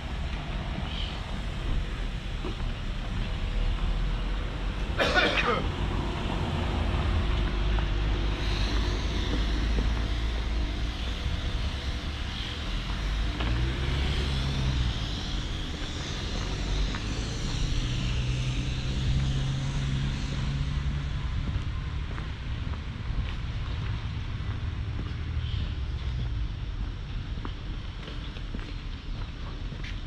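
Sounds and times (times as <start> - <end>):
outdoor noise: 0.0 - 30.0
vehicle engine running: 0.0 - 30.0.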